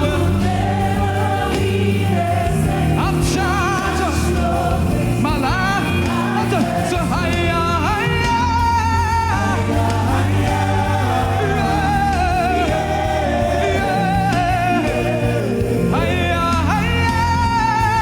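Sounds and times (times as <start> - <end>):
steady bass line: 0.0 - 18.0
voices singing gospel song: 0.0 - 18.0.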